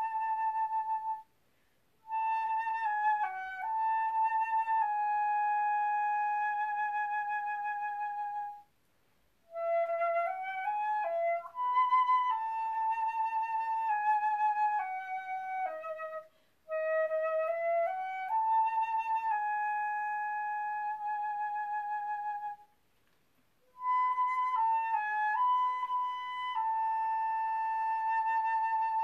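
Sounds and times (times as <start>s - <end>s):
flute playing a slow hymn melody: 0.0s - 1.3s, 2.0s - 8.7s, 9.5s - 22.7s, 23.6s - 29.0s.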